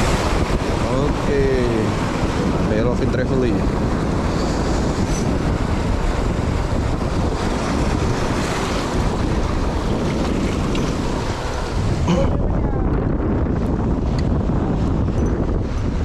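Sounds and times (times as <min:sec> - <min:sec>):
waves washing against rocks: 0:00.0 - 0:16.0
wind rumbling on microphone: 0:00.0 - 0:16.0.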